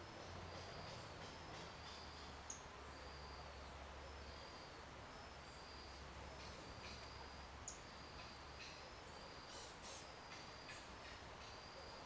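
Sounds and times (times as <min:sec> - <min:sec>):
distant small birds calling: 0:00.0 - 0:12.0.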